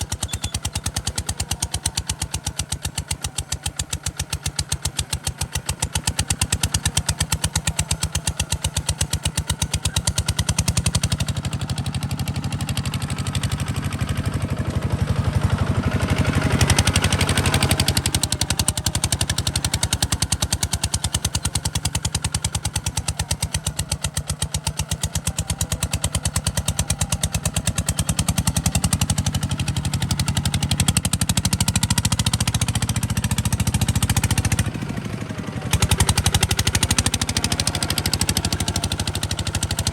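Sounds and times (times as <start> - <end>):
single-cylinder diesel engine running: 0.0 - 39.9.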